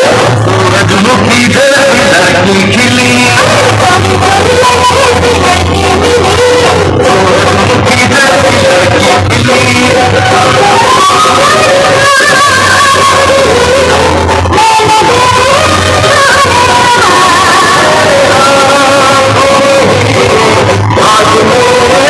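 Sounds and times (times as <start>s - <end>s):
distorted song over loudspeakers: 0.0s - 22.0s.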